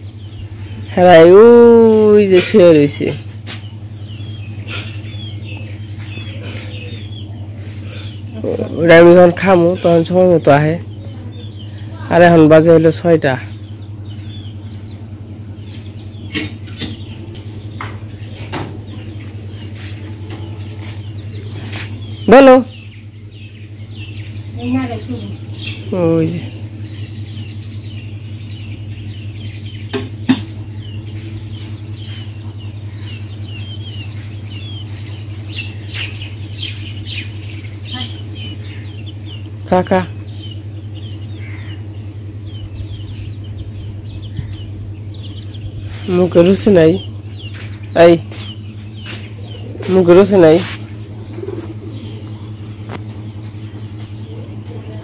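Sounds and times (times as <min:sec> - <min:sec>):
faint bird chirps: 0:00.0 - 0:55.0
steady low hum: 0:00.0 - 0:55.0.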